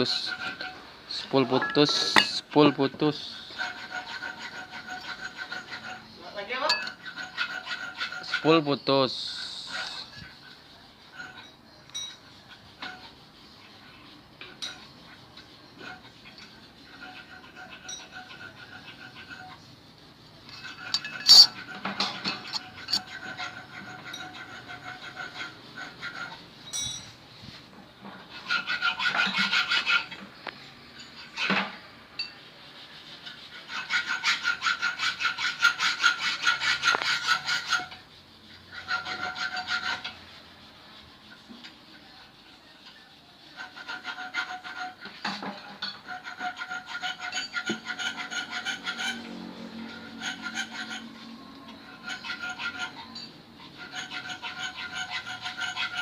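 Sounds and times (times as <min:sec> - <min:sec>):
hand tool rasping strokes: 0:00.0 - 0:56.0.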